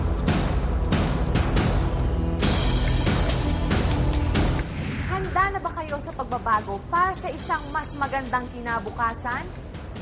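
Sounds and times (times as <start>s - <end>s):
dramatic theme music: 0.0s - 10.0s.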